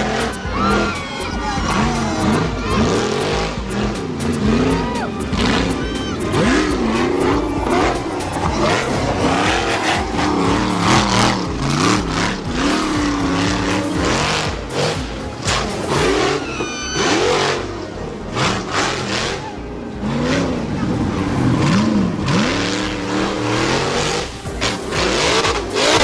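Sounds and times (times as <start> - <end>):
engine revving hard: 0.0 - 26.0.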